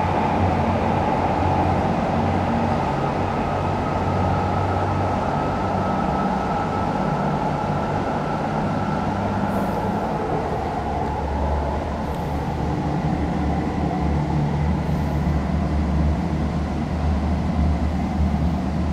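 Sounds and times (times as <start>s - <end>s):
diesel railcar engine drone: 0.0s - 18.9s.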